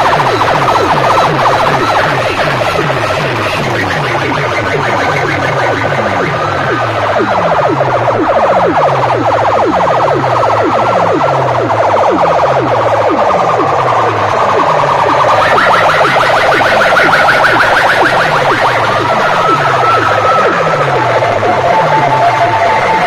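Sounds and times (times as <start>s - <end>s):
loud electronic siren tone: 0.0s - 23.0s.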